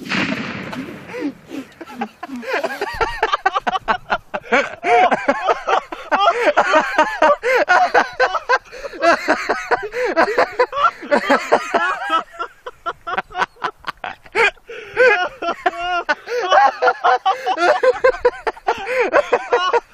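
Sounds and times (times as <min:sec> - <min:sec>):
people laughing loudly: 0:00.0 - 0:19.9.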